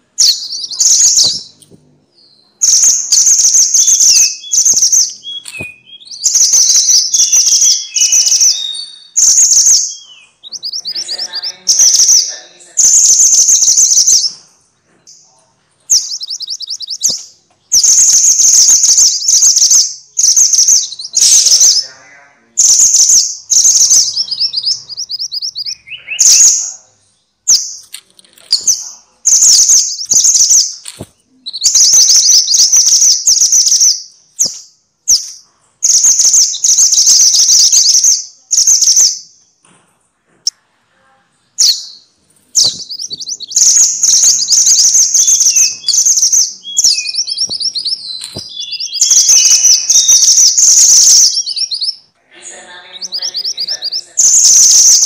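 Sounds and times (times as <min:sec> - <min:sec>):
bird song of rapid high chirps: 0:00.0 - 0:14.4, 0:15.0 - 0:39.6, 0:41.6 - 0:55.0.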